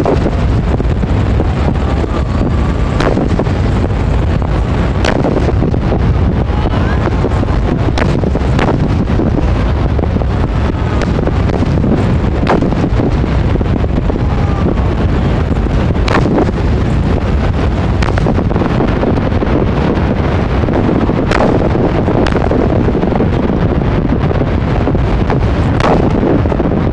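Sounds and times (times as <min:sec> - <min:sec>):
fireworks sharp cracks: 0:00.0 - 0:26.8
fireworks rumble: 0:00.0 - 0:26.9.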